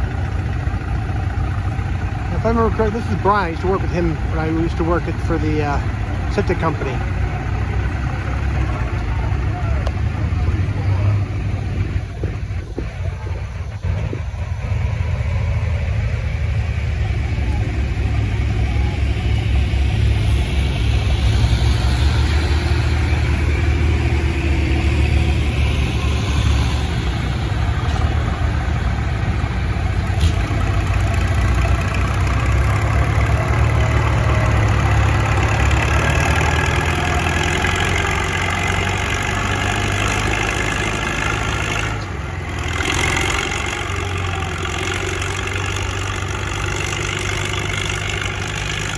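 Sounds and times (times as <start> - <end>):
tractor engine running hard: 0.0 - 48.9.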